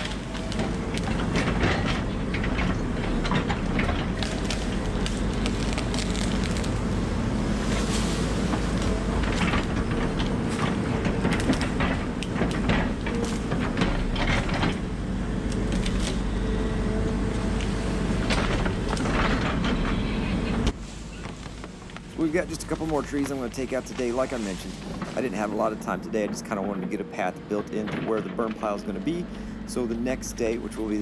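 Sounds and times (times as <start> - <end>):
excavator diesel engine running: 0.0 - 31.0
wood and branches cracking: 0.0 - 31.0.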